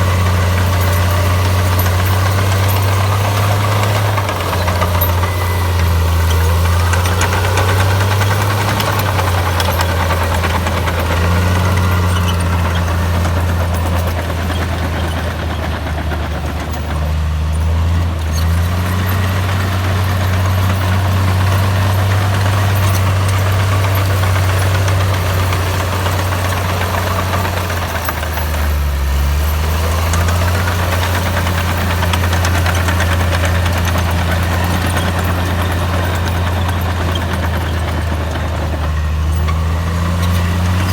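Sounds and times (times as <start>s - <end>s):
bulldozer diesel engine droning: 0.0s - 40.9s.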